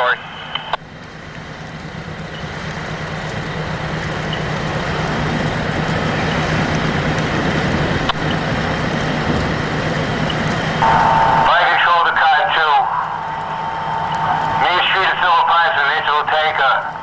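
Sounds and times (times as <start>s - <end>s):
heavy vehicle engine humming: 0.0s - 17.0s.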